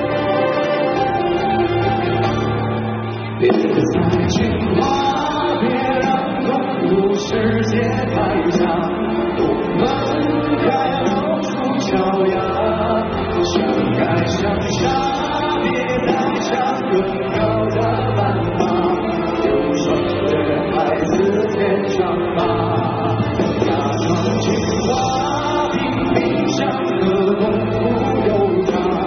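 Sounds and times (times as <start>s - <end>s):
live band playing: 0.0s - 29.0s
men singing pop ballad duet: 3.4s - 29.0s.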